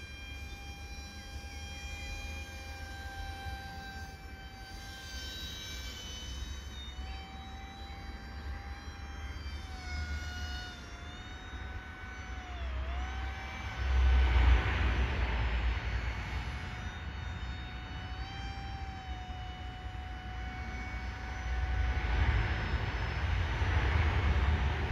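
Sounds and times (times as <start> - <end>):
propeller motor whining: 0.0 - 24.9.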